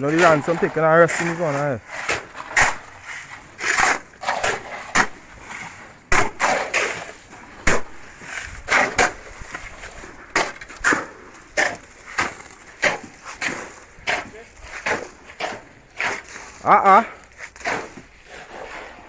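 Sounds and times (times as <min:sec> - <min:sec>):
hand tools striking and scraping: 0:00.0 - 0:19.0.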